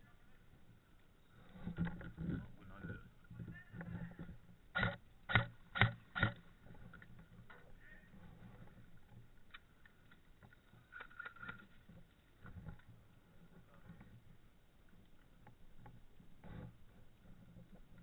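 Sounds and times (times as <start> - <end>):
faint clicks: 1.0 - 18.0.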